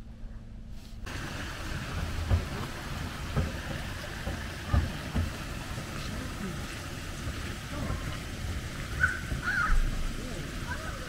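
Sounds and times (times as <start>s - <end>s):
steady hiss: 0.7s - 11.0s.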